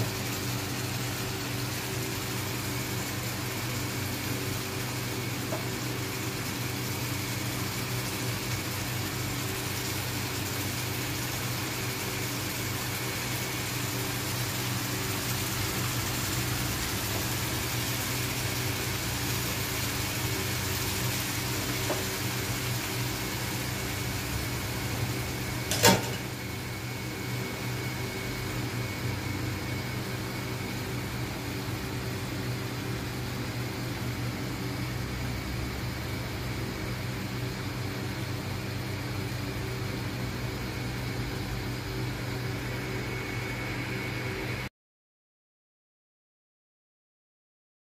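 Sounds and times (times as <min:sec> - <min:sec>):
machine hum: 0:00.0 - 0:44.7.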